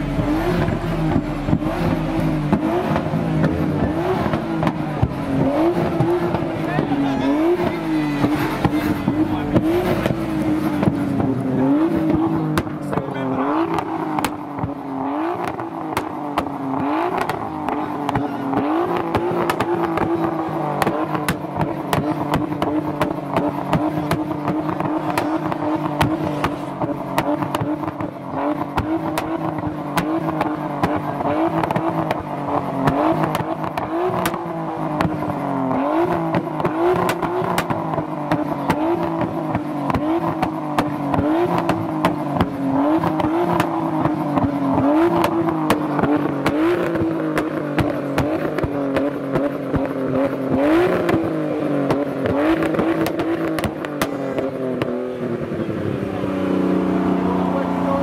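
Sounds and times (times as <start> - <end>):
exhaust pops and crackles: 0.0 - 56.2
car engine revving: 0.0 - 58.0.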